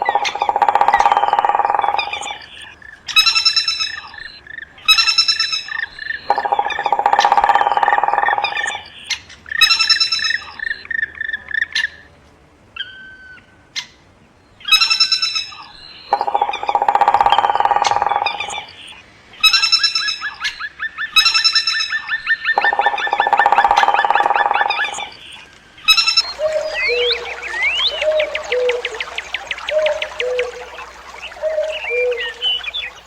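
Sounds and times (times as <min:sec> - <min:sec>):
songbirds singing: 0:00.0 - 0:12.2, 0:12.8 - 0:33.0.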